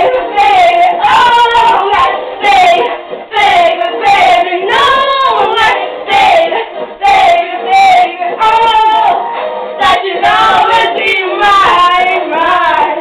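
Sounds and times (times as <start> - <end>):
girls singing and shouting: 0.0 - 13.0.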